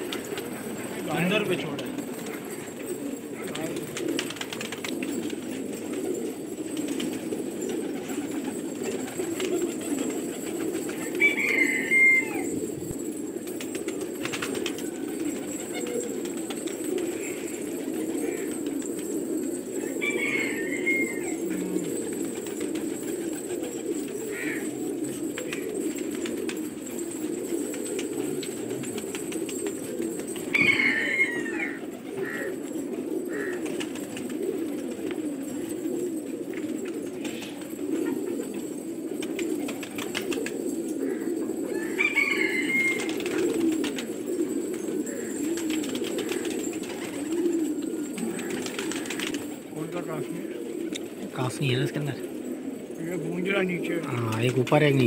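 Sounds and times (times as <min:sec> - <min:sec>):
pigeons cooing: 0:00.0 - 0:55.0
wings flapping: 0:00.0 - 0:55.0.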